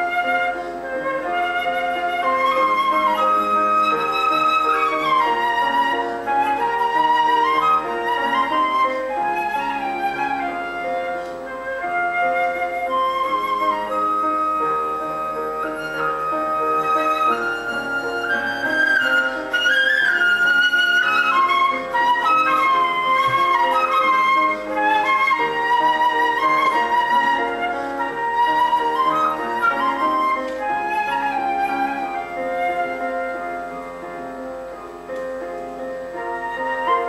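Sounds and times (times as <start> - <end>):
slow flute melody: 0.0 - 37.0
sustained chord accompaniment: 0.0 - 37.0.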